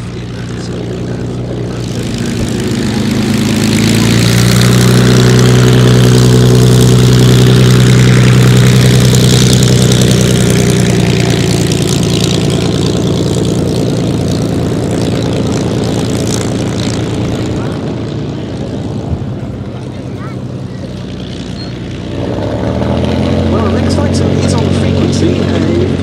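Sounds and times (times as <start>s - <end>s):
propeller plane engine passing: 0.0s - 26.0s.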